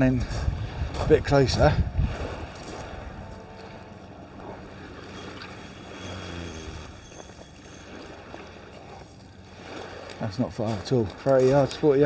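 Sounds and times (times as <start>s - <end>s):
wind on microphone: 0.0s - 10.0s
sea waves on beach: 0.0s - 12.0s.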